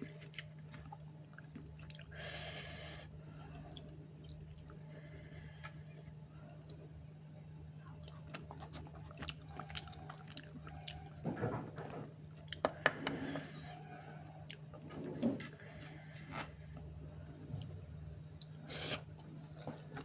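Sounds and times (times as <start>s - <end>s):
person chewing food: 0.0s - 2.5s, 3.3s - 5.0s, 5.6s - 20.0s.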